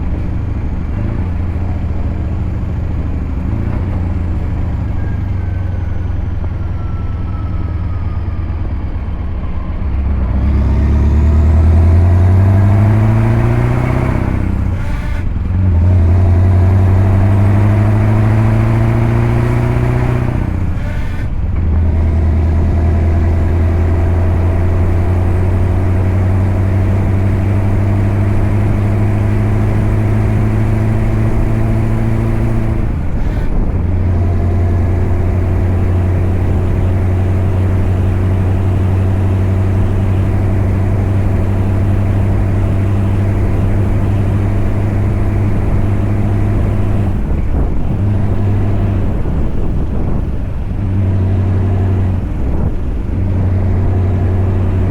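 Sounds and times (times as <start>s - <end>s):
diesel truck engine accelerating: 0.0s - 54.9s.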